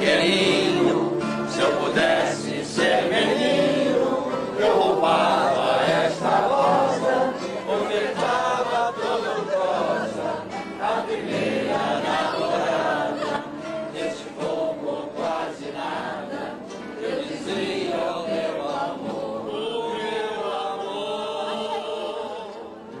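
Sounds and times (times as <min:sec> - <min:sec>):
group singing in chorus: 0:00.0 - 0:23.0.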